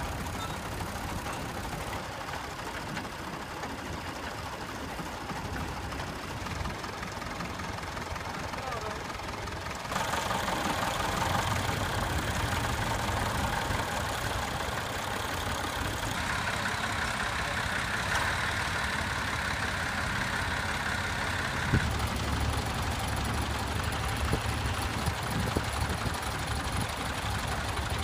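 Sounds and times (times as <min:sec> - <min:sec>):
tractor engines running: 0:00.0 - 0:28.0.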